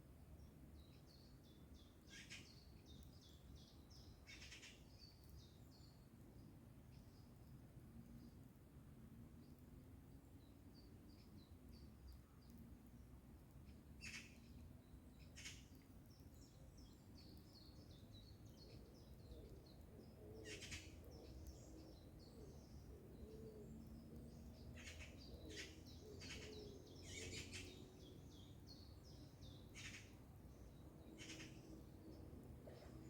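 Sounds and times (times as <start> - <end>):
songbirds twittering: 0.3 - 8.5, 9.3 - 33.0.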